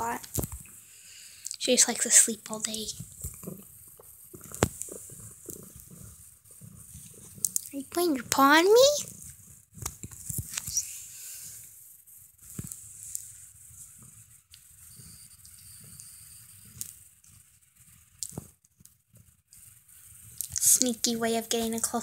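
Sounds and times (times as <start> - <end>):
rustling against a blanket: 1.6 - 22.0.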